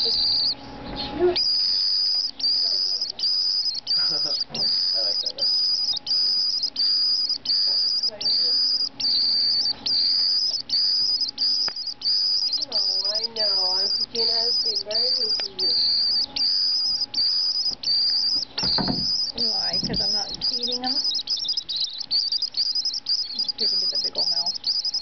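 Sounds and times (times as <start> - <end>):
swift calling shrilly: 1.4 - 25.0.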